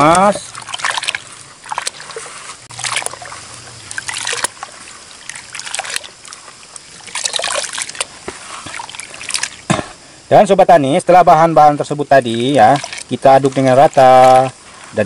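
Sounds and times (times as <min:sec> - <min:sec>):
water sloshing in a tub: 0:00.0 - 0:15.0
water trickling: 0:00.0 - 0:15.0.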